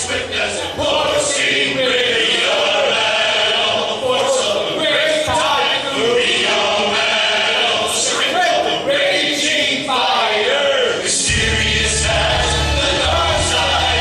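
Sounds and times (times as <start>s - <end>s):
group of voices singing: 0.0s - 14.0s.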